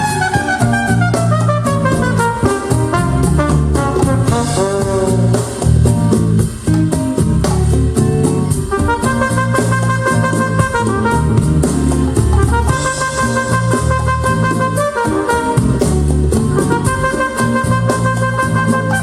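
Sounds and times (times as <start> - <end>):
jazz fusion music over loudspeakers: 0.0 - 19.0.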